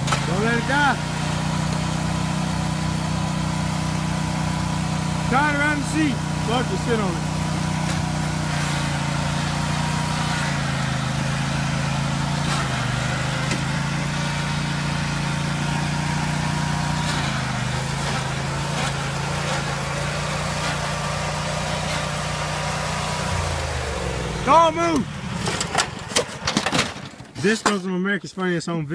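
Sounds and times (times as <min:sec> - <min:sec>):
lawn mower engine running: 0:00.0 - 0:27.8.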